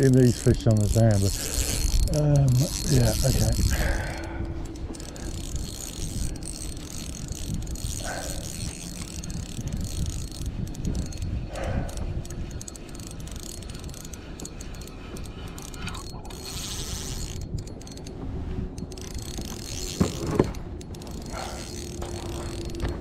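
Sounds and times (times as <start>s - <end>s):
fishing reel whirring and clicking: 0.0s - 23.0s.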